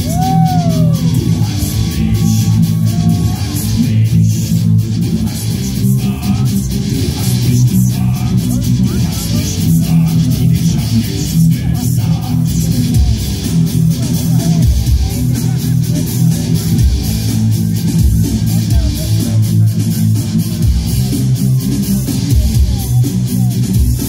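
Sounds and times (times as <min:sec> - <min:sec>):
loud rock music: 0:00.0 - 0:24.0.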